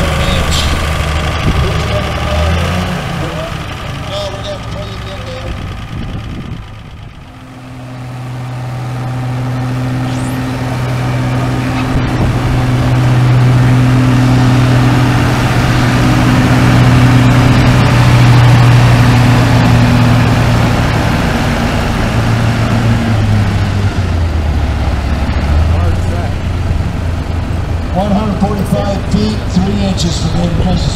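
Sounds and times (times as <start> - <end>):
tractor engine under heavy load: 0.0 - 30.9.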